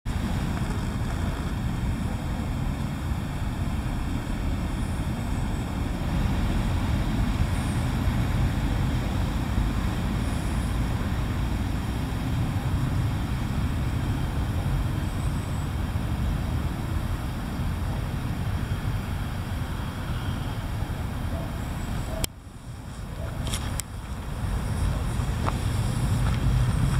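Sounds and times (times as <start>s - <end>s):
low outdoor rumble: 0.1s - 26.9s.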